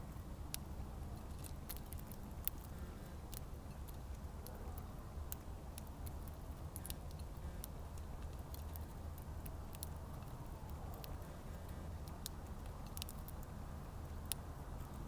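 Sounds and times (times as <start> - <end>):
birds pecking and cracking seed: 0.0 - 15.0.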